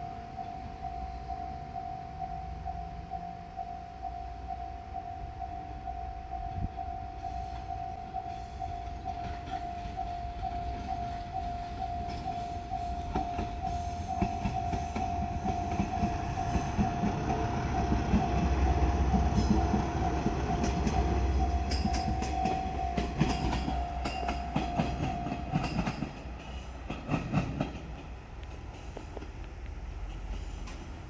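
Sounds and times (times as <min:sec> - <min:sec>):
level-crossing alarm dinging: 0:00.0 - 0:26.6
diesel railcar engine rumble: 0:00.0 - 0:31.0
train wheel noise: 0:00.0 - 0:31.0.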